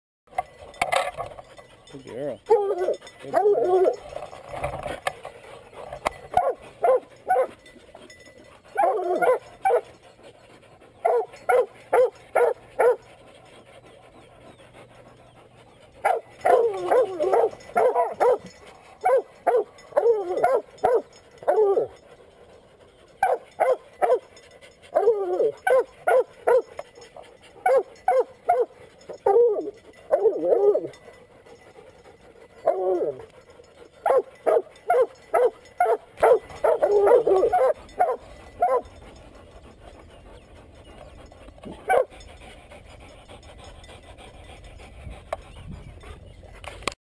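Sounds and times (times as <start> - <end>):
hounds barking: 2.4 - 4.6, 5.8 - 42.3.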